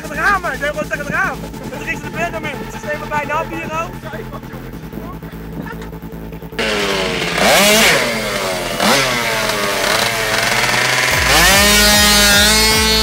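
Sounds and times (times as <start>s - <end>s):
electronic dance music: 0.0s - 13.0s
scooter engine revving: 0.0s - 13.0s.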